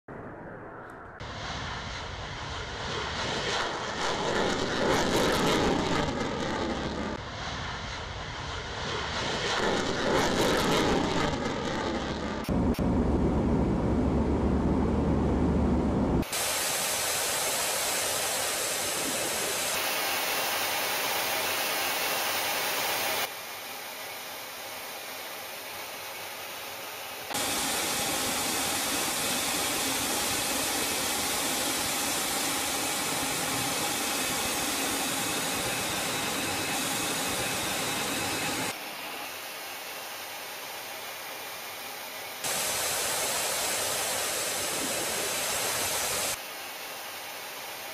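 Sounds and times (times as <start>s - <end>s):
jet flight noise: 0.1s - 47.9s.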